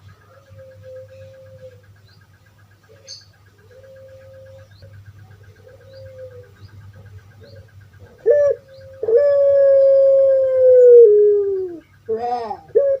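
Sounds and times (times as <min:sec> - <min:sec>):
dove cooing: 0:00.0 - 0:02.2, 0:02.8 - 0:13.0.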